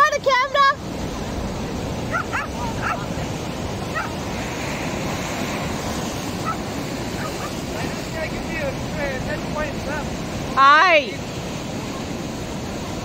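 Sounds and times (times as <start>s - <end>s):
surf breaking over rocks: 0.0s - 13.0s.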